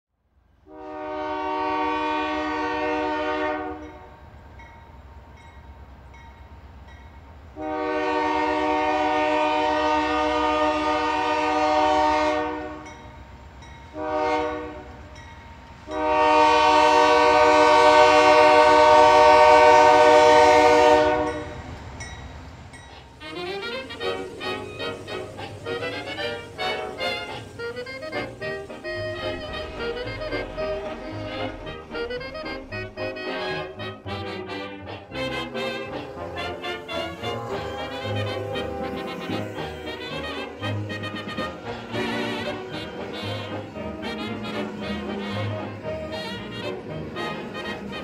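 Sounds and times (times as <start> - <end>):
low train rumble: 0.2 - 48.0
locomotive air horn blasts: 0.6 - 4.2, 7.6 - 13.0, 13.9 - 15.2, 15.8 - 21.6, 23.2 - 48.0.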